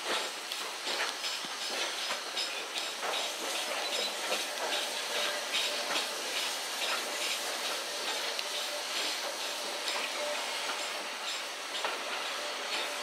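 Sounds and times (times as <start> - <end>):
steam train hissing: 0.0 - 13.0
train wheels clicking and knocking: 0.0 - 13.0.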